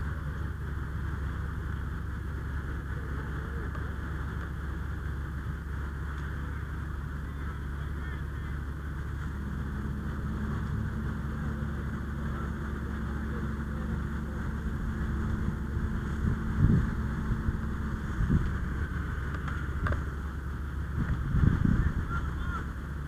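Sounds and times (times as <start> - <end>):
engine-like drone: 0.0 - 23.0
steady hum: 0.0 - 23.0.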